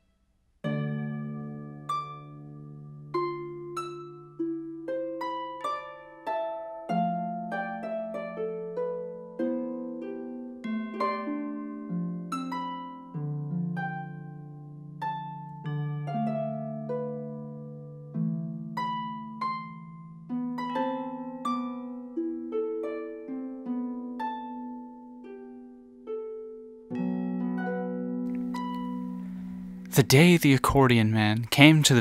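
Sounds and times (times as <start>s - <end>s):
harp playing slowly: 0.0s - 30.6s.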